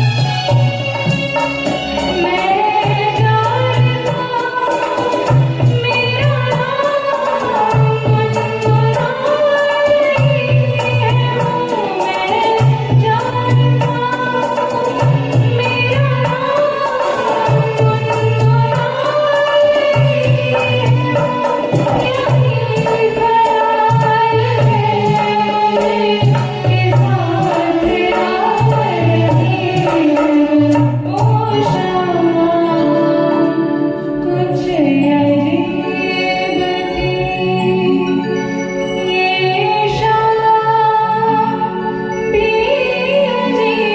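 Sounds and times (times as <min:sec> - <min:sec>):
instrumental accompaniment: 0:00.0 - 0:43.9.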